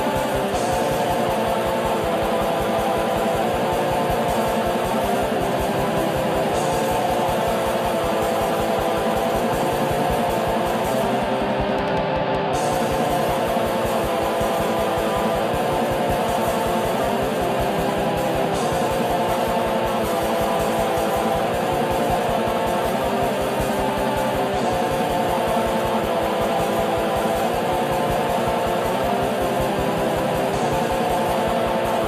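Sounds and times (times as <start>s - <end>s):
heavy metal song: 0.0s - 32.0s.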